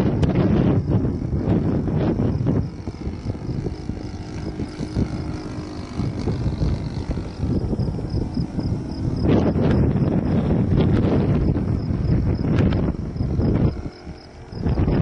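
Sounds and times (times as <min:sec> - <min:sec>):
model plane motor drone: 0:00.0 - 0:15.0
wind buffeting microphone: 0:00.0 - 0:15.0.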